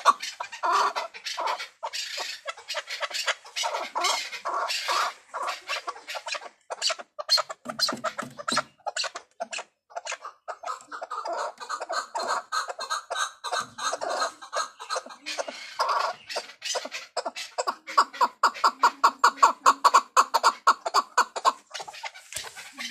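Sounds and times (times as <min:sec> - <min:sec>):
partridge calling with rapid clucks: 0:00.0 - 0:22.9.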